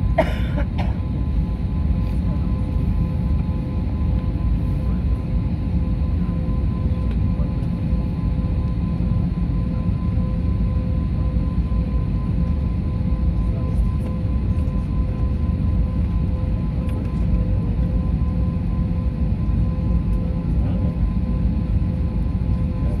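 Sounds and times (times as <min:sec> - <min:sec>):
jet aircraft rumble: 0:00.0 - 0:23.0.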